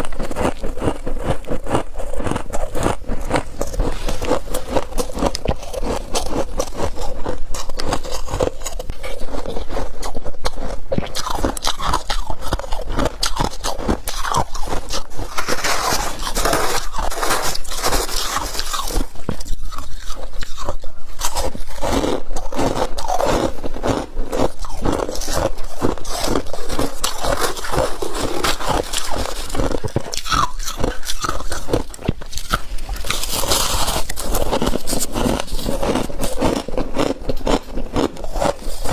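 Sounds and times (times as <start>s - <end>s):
frost squeaky crunches: 0.0s - 38.9s.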